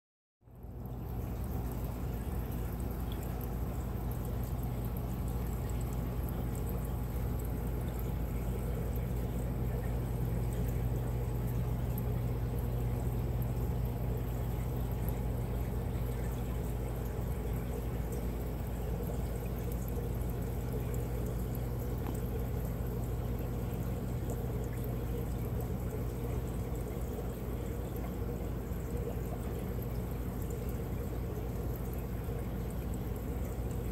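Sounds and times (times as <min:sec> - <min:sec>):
constant low hum: 0:00.4 - 0:33.9
water bubbling and trickling: 0:00.4 - 0:33.9.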